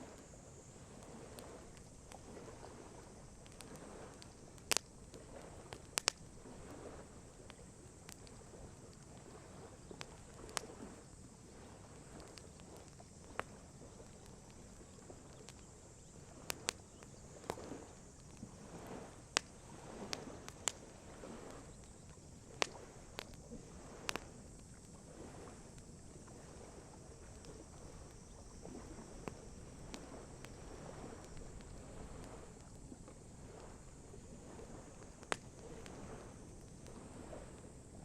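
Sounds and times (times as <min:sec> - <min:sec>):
campfire crackling: 0:00.0 - 0:38.0
lake water lapping: 0:00.0 - 0:38.0.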